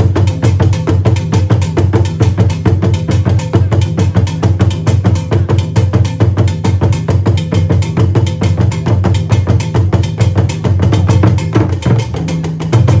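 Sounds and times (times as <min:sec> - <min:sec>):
clicking percussion beat: 0:00.0 - 0:13.0
music with heavy bass: 0:00.0 - 0:13.0.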